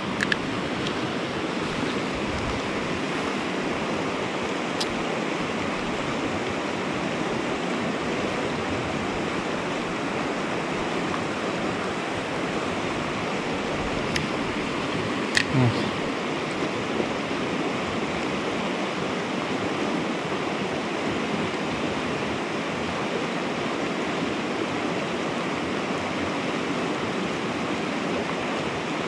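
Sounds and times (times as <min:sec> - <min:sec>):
river rushing over rocks: 0:00.0 - 0:29.0.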